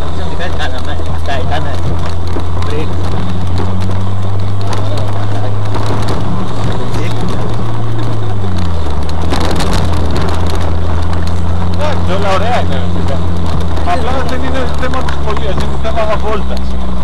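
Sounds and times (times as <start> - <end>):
rattles and knocks: 0.0 - 17.0
vehicle engine droning: 0.0 - 17.0.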